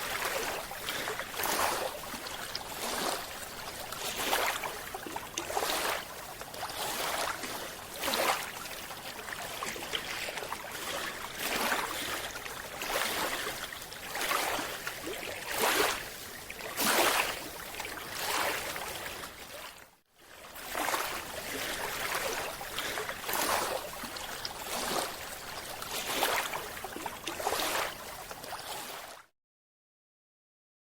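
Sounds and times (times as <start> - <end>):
water rushing and bubbling: 0.0 - 19.8, 20.4 - 29.2.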